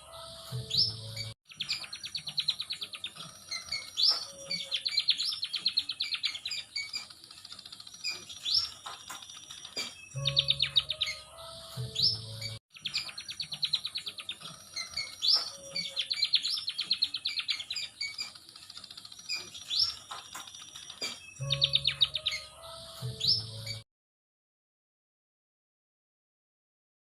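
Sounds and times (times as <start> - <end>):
birds singing with chirping trills: 0.0 - 23.8.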